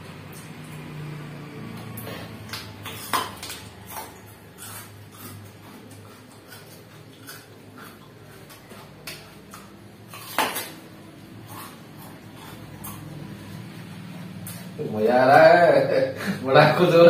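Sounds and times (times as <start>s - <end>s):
person chewing: 0.0s - 14.8s.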